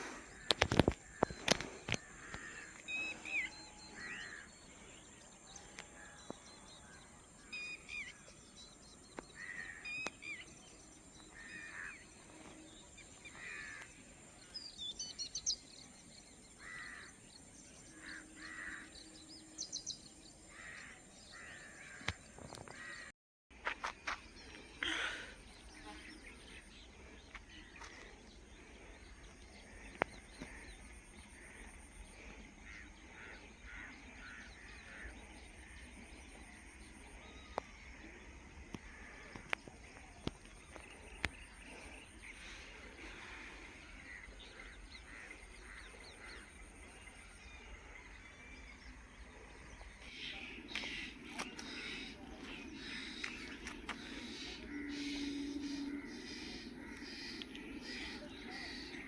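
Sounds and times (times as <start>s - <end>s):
birds chirping and calling: 0.0s - 59.0s.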